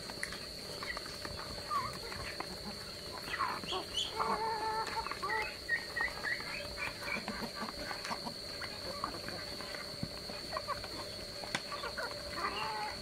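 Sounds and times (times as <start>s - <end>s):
birds pecking and scuffling: 0.0s - 13.0s
chickens clucking: 0.0s - 13.0s.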